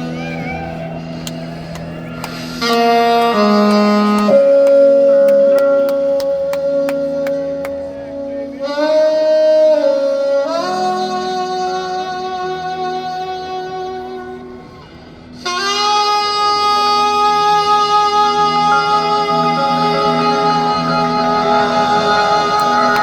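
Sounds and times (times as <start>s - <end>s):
lead instrument sliding long notes: 1.9s - 23.0s.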